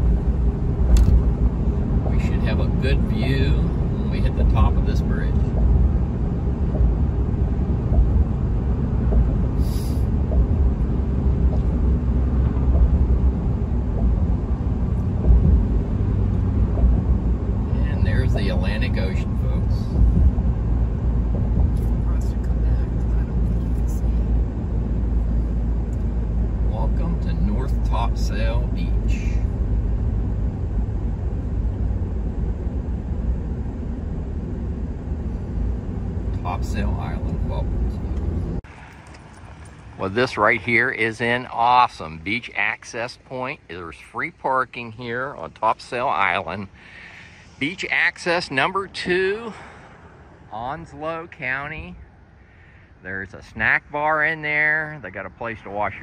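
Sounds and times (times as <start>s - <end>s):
truck road rumble: 0.0s - 56.0s.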